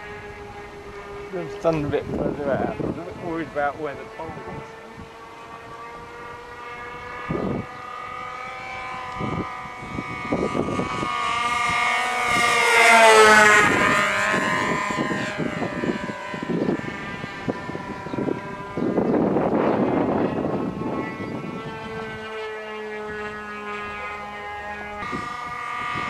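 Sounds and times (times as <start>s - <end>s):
model airplane engines flying past: 0.0s - 26.0s.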